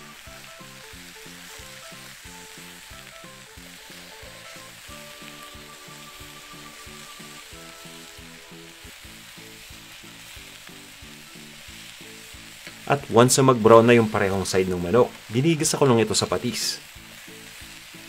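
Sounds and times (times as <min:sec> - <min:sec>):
chicken sizzling in hot oil: 0:00.0 - 0:18.0
light background music with beat: 0:00.0 - 0:18.0.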